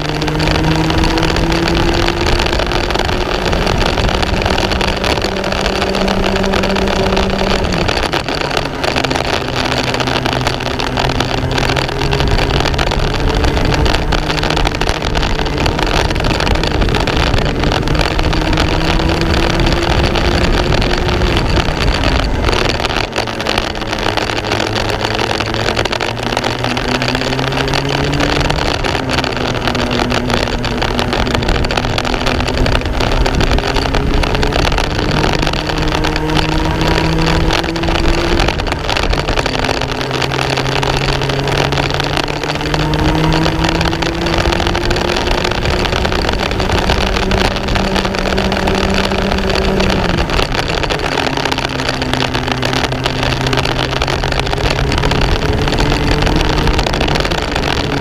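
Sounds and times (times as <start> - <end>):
racing kart engine: 0.0 - 58.0.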